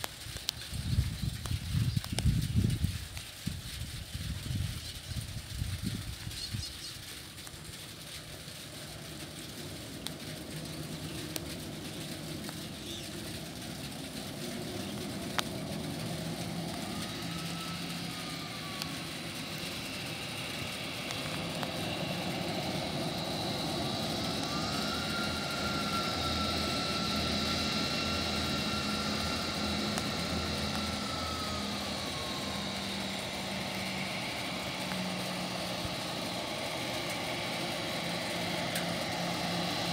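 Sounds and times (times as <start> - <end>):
jet engine whine: 0.0 - 39.9
jet engines taxiing: 0.0 - 39.9.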